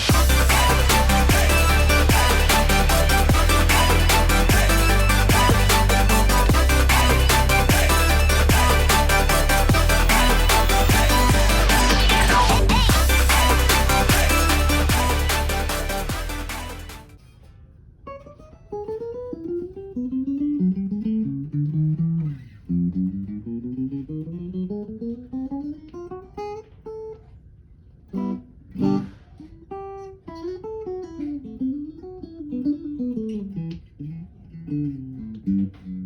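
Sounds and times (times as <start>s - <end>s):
solo guitar playing: 0.1s - 16.5s, 18.1s - 27.1s, 28.1s - 36.0s.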